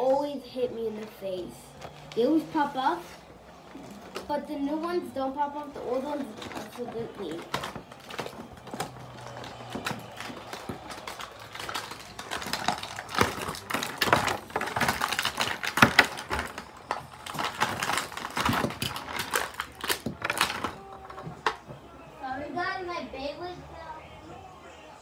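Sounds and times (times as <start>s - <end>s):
plastic packaging crinkling: 0.0s - 21.8s.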